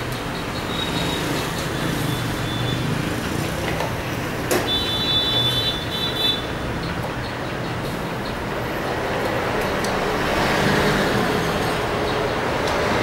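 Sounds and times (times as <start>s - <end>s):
motor vehicles running: 0.0s - 13.0s.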